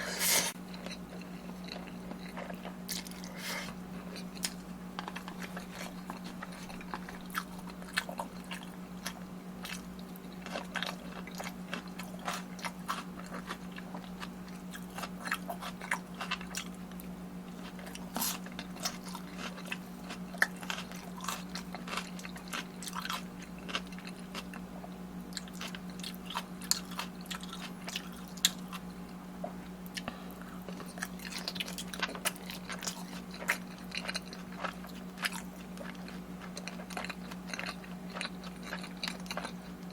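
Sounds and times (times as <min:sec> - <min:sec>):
crunchy chewing: 0:00.0 - 0:39.9
low electrical hum: 0:00.0 - 0:39.9.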